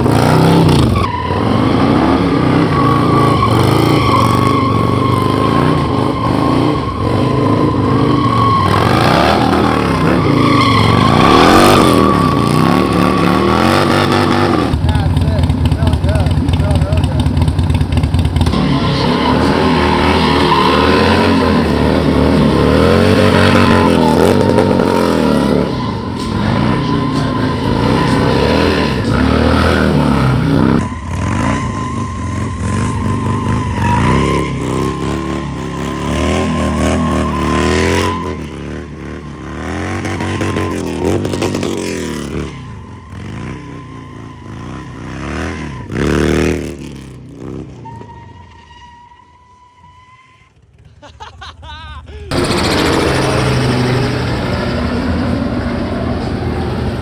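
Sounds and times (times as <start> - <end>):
motorcycle engines revving: 0.0 - 48.6, 52.1 - 57.0.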